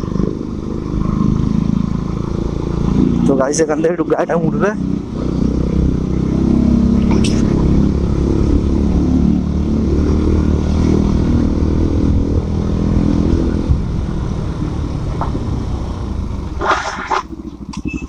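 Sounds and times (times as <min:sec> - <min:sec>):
motorcycle engine riding: 0:00.0 - 0:18.0.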